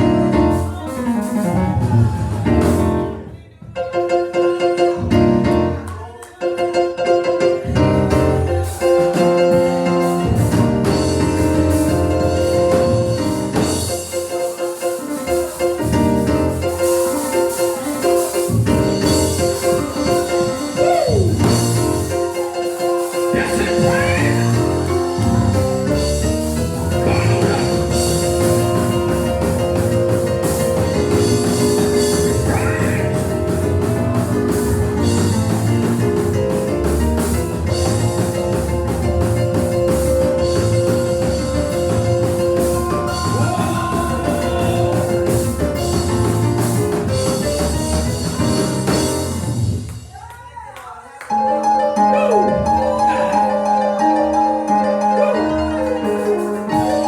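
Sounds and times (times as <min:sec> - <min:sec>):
drums keeping a beat: 0:00.0 - 0:04.0, 0:07.6 - 0:50.6, 0:55.8 - 0:57.0
gospel church music: 0:00.0 - 0:57.0.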